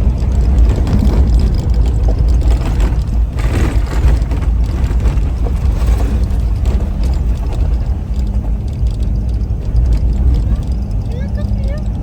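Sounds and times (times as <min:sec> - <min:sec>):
vehicle rumbling on rough road: 0:00.0 - 0:12.0.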